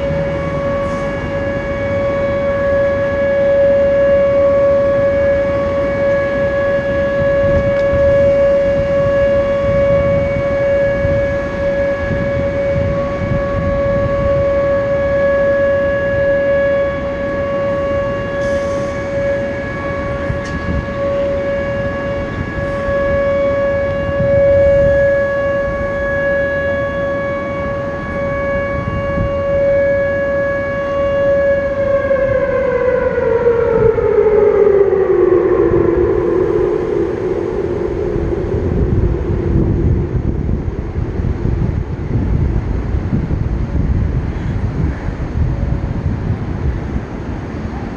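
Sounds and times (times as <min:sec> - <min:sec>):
warning siren steady tone: 0:00.0 - 0:47.9.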